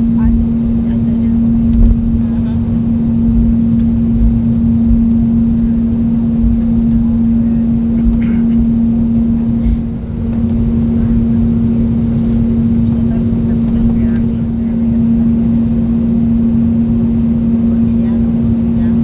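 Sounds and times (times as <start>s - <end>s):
aircraft cabin hum: 0.0s - 19.0s.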